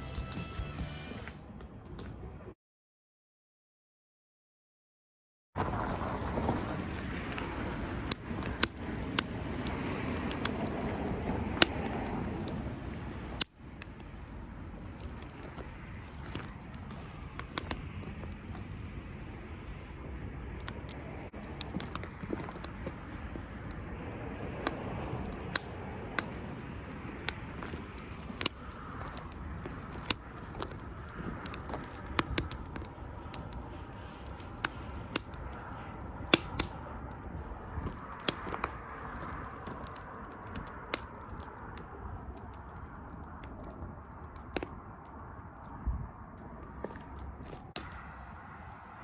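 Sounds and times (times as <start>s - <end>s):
wood fire crackling and popping: 0.0s - 2.4s, 5.6s - 49.0s
flames rushing: 5.6s - 49.0s.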